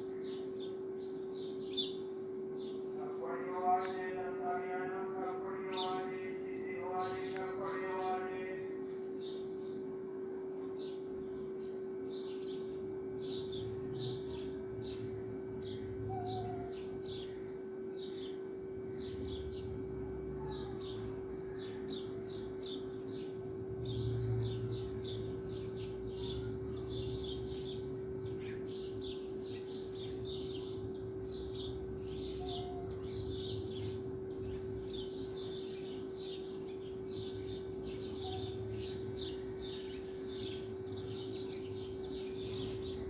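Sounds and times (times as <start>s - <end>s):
small birds chirping: 0.0s - 9.8s, 10.6s - 43.0s
steady hum: 0.0s - 43.0s.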